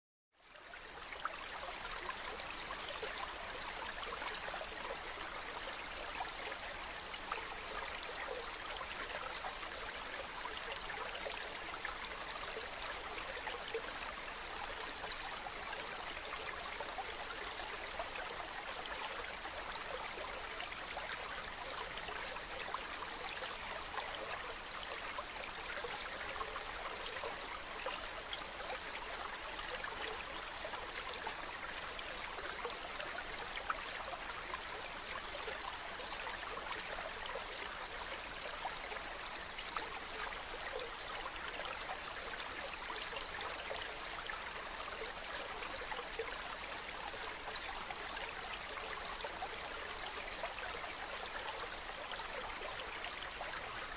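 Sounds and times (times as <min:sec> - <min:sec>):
stream babbling over rocks: 0:00.6 - 0:53.9.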